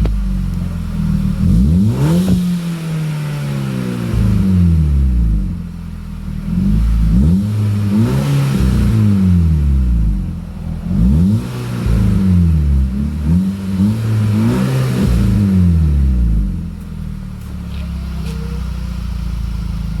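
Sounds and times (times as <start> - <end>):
car engine revving and idling: 0.0 - 20.0.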